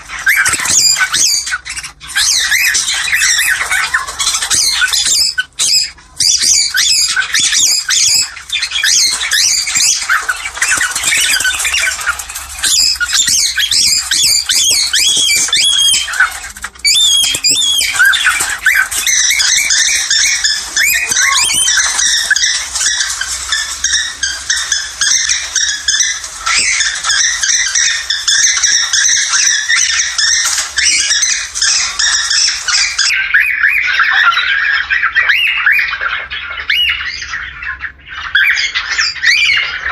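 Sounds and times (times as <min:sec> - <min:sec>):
cockatiels squawking and chirping: 0:00.0 - 0:39.9.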